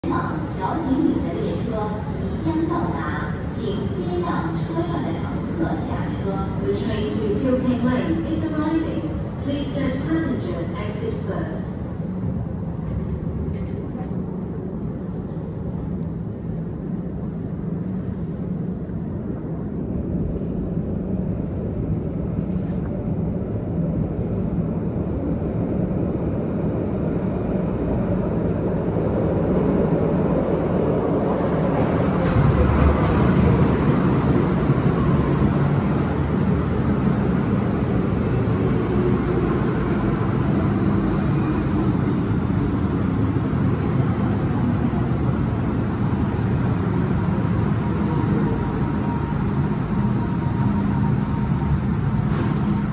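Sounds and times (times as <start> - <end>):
electric train rumbling: 0.0 - 52.9.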